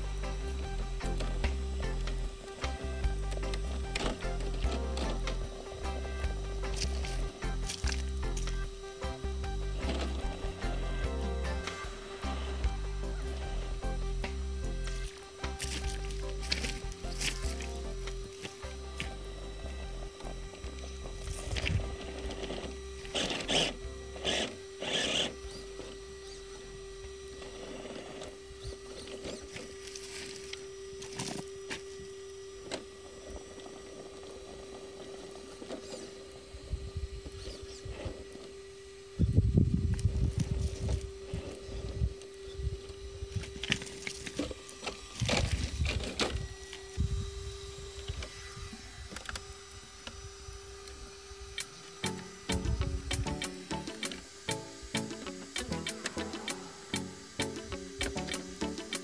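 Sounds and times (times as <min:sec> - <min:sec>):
electric drivetrain whine: 0:00.0 - 0:59.0
electric motor whirring: 0:00.0 - 0:59.0
faint steady hum: 0:00.0 - 0:59.0.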